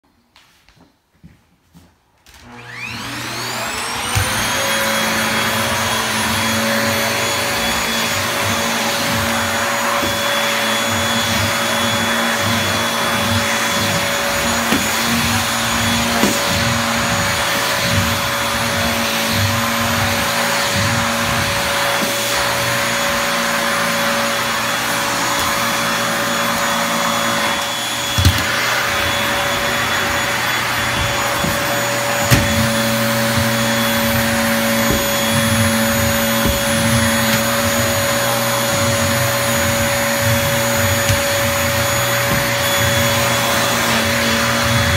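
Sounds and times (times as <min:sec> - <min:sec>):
vacuum cleaner running: 0:02.3 - 0:44.9.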